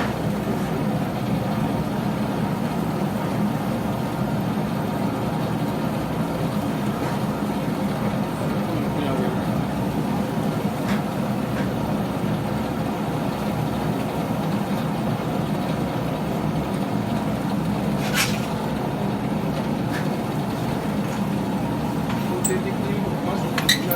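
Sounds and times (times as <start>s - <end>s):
steady mechanical noise: 0.0s - 23.9s.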